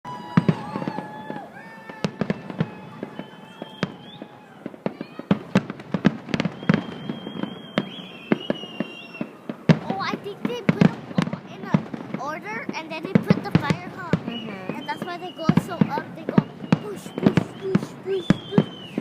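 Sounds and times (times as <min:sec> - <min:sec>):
fireworks bangs and pops: 0:00.1 - 0:19.0.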